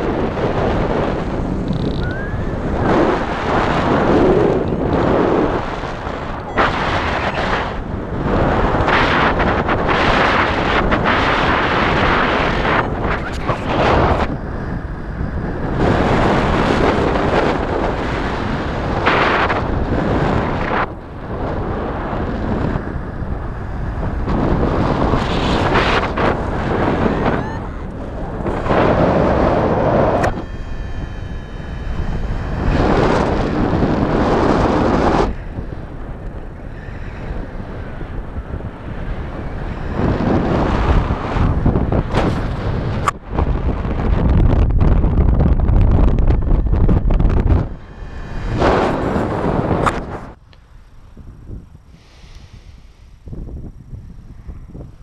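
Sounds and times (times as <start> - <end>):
wind blasting microphone: 0.0 - 55.0.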